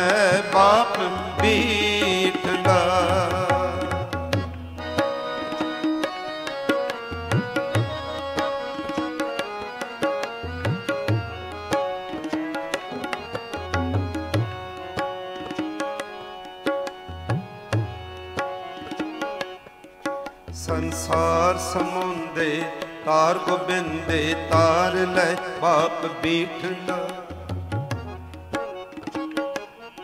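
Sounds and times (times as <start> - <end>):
harmonium melody: 0.0 - 30.0
tabla playing a rhythm: 0.0 - 30.0.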